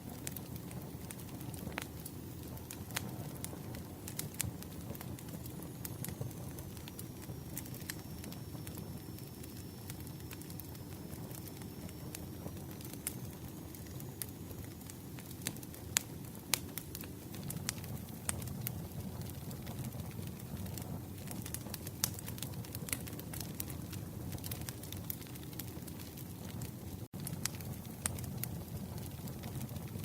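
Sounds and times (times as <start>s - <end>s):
campfire flames rumbling: 0.0s - 30.0s
wood crackling and popping: 0.0s - 30.0s.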